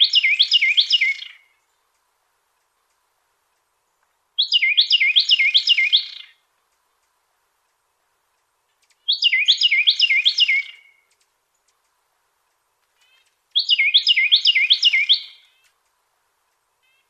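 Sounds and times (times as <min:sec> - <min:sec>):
wren singing: 0:00.0 - 0:17.0.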